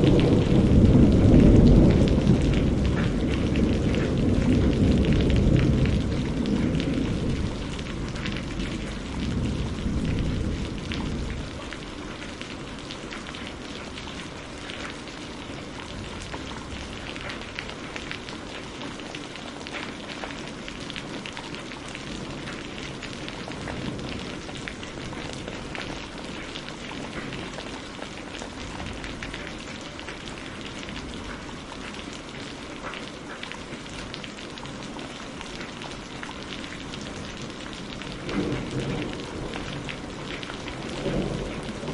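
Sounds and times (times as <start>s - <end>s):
thunder rumbling: 0.0s - 19.1s, 19.9s - 31.7s, 35.9s - 41.9s
steady rain falling: 0.0s - 41.9s.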